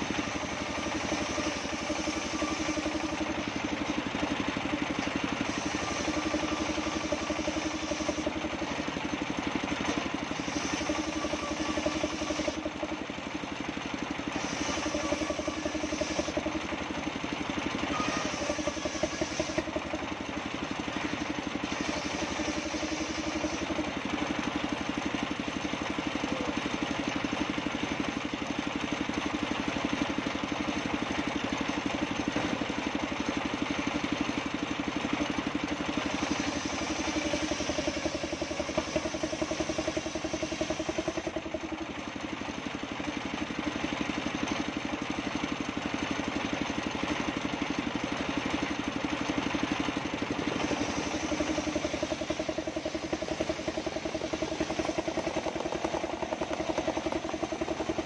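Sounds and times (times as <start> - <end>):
saw blade whining in wood: 0.0 - 28.4, 33.6 - 58.0
table saw engine running: 0.0 - 58.0.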